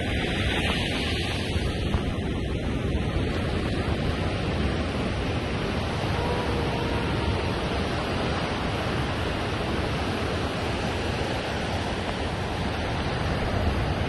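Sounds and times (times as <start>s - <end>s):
ocean surf breaking on beach: 0.0s - 14.0s
wind on microphone: 0.0s - 14.0s.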